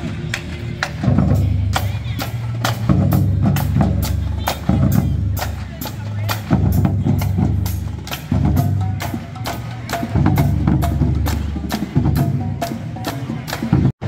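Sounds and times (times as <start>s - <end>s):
drumline sharp clicks: 0.0s - 14.0s.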